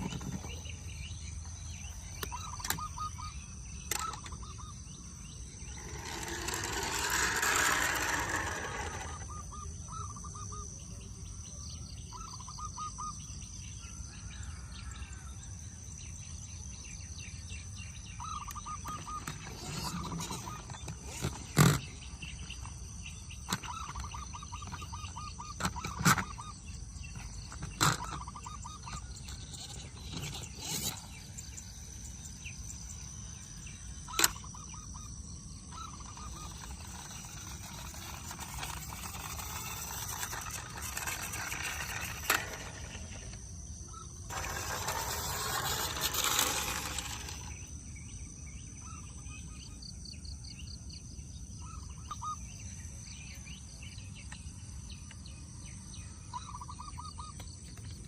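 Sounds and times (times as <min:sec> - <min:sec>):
faint chirping: 0:00.0 - 0:58.0.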